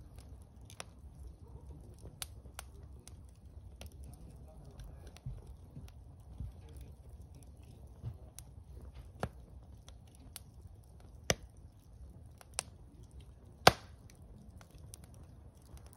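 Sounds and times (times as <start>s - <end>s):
campfire crackling and popping: 0.0s - 15.9s
low steady rumble: 0.0s - 15.9s.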